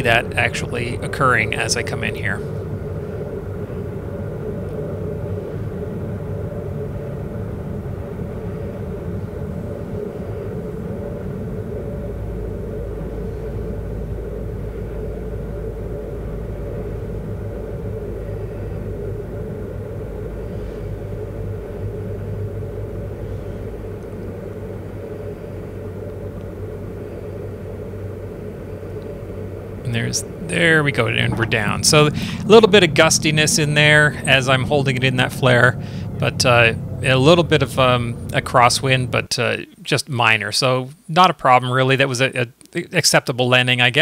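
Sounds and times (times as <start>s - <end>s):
airflow: 0.0s - 40.4s
aircraft engine drone in cockpit: 0.0s - 44.0s.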